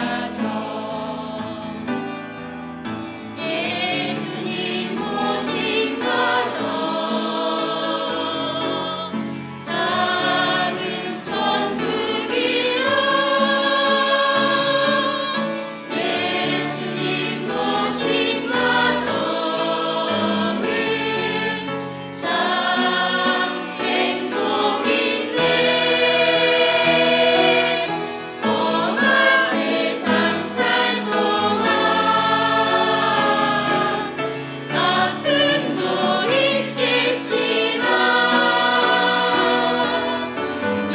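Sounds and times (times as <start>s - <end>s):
church choir singing: 0.0s - 40.9s.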